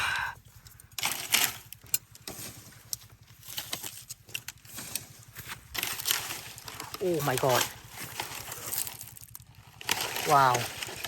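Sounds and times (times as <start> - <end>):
dry leaves rustling: 0.9 - 11.0.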